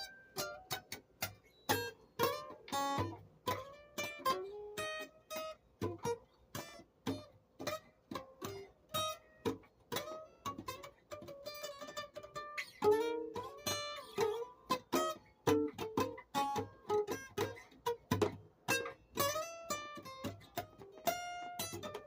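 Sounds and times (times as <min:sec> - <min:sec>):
acoustic guitar picking: 0:00.0 - 0:22.0.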